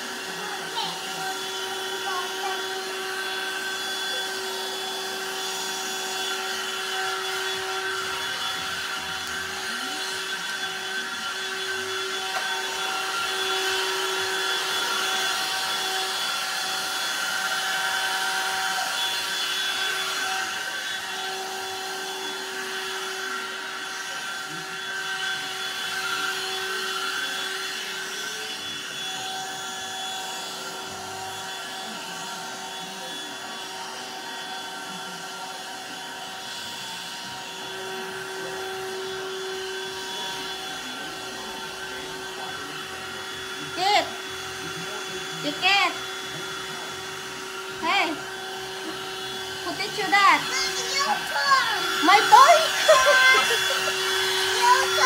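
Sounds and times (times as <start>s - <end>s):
handheld vacuum cleaner running: 0.0s - 55.0s.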